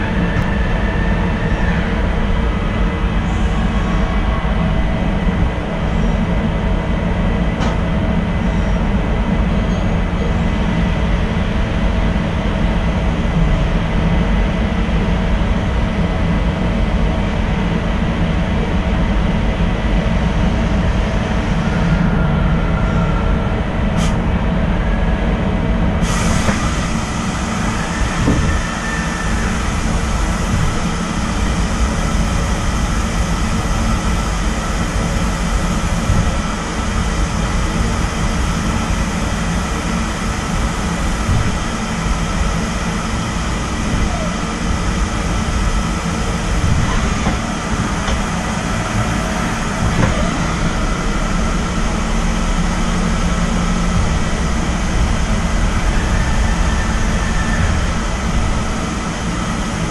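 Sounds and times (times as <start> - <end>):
lathe machine hum: 10.4 - 59.9.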